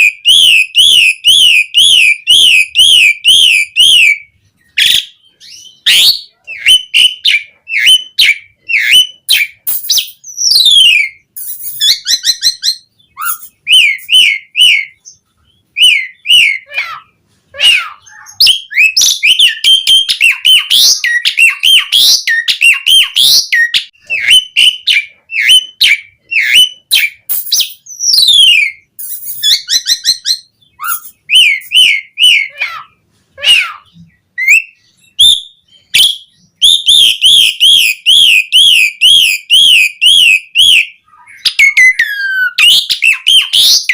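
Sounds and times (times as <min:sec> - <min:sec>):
starling singing: 0:00.0 - 0:43.9.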